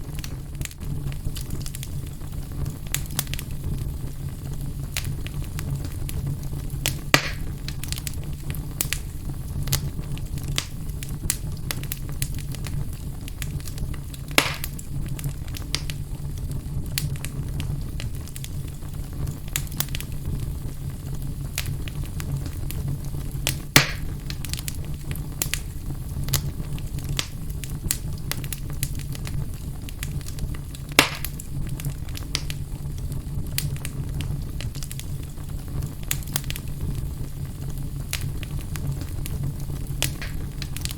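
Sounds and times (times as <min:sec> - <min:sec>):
low rumble of flames: 0:00.0 - 0:40.9
sharp pops of fire: 0:00.0 - 0:40.9
wood fire crackling: 0:00.0 - 0:40.9.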